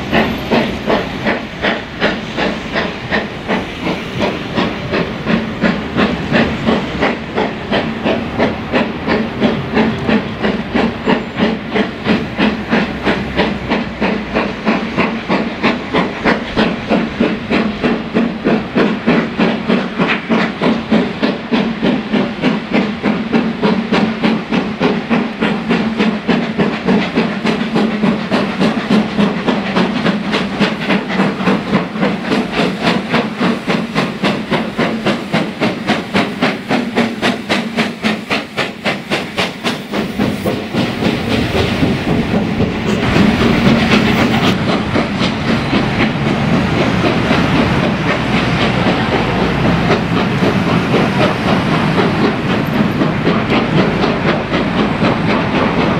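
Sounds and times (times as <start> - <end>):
steam hiss: 0.0 - 55.9
steam locomotive exhaust beats: 0.0 - 55.9
train running on rails: 0.0 - 55.9.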